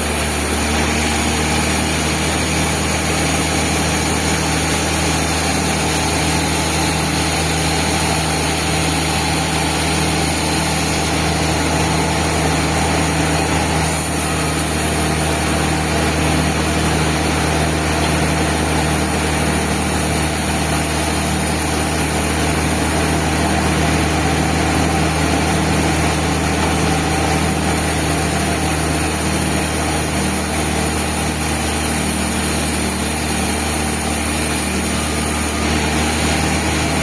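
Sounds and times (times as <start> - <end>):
band saw machine hum: 0.0 - 37.0.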